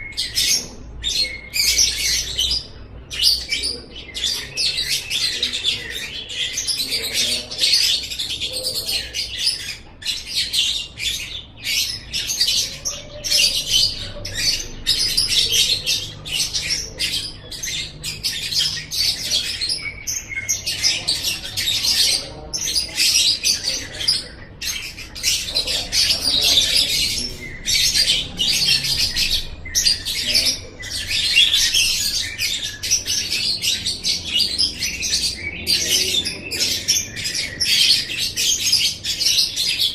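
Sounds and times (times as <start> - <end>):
lovebird chattering and trilling: 0.0 - 39.9.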